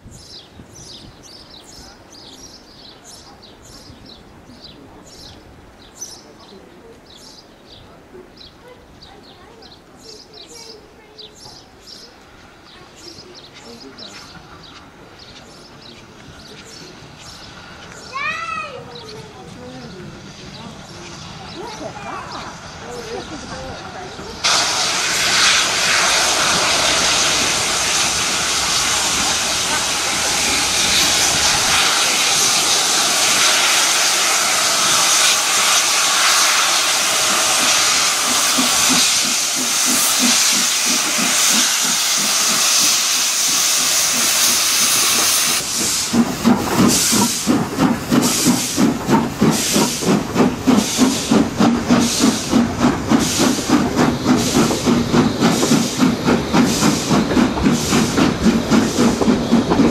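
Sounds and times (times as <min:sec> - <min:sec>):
train wheels clattering over track: 0:09.5 - 0:59.9
steam hissing: 0:10.0 - 0:59.9.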